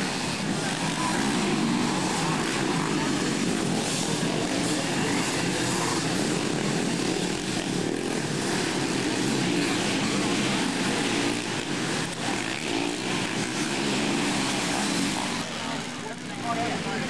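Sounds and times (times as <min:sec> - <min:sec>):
racing engines droning: 0:00.0 - 0:17.0.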